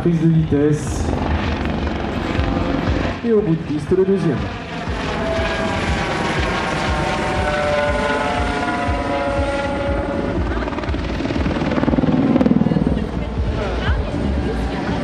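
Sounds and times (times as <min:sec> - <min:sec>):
helicopter rotor beat: 0:00.0 - 0:15.0
helicopter turbine whine: 0:00.0 - 0:15.0.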